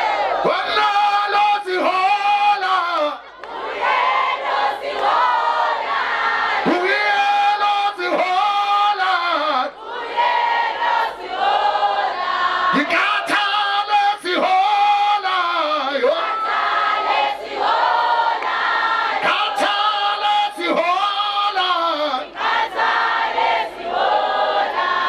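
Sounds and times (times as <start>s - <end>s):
chorus of voices singing: 0.0s - 25.0s.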